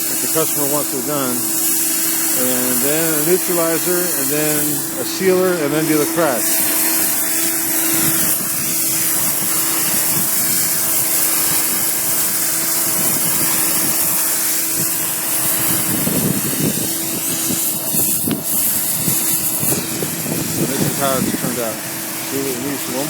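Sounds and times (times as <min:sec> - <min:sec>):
high hiss: 0:00.0 - 0:23.0
motor-driven machine humming: 0:00.0 - 0:23.0.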